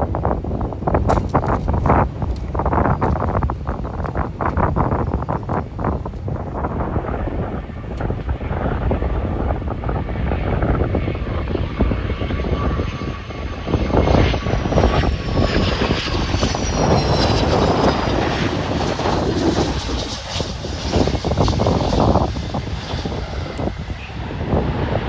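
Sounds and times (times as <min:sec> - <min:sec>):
airliner engines passing: 0:00.0 - 0:25.0
wind buffeting microphone: 0:00.0 - 0:25.0.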